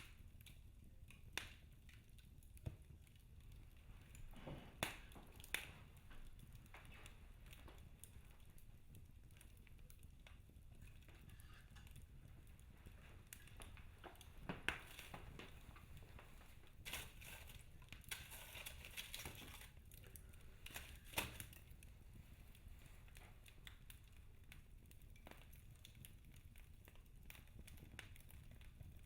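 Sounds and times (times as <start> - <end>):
logs crackling and popping: 0.0 - 29.0.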